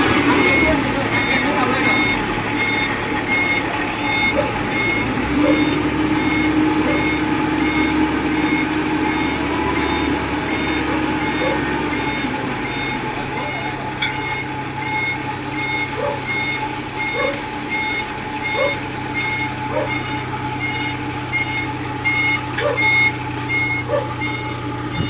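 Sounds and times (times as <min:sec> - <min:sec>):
diesel engine running: 0:00.0 - 0:25.0
reversing alarm beeping: 0:00.0 - 0:25.0.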